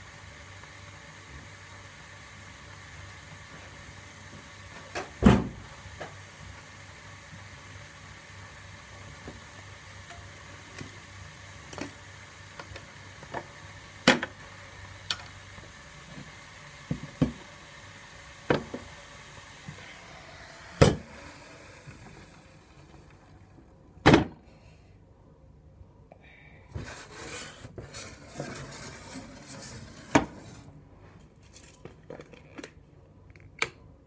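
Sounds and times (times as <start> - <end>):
low steady hiss: 0.0 - 34.0.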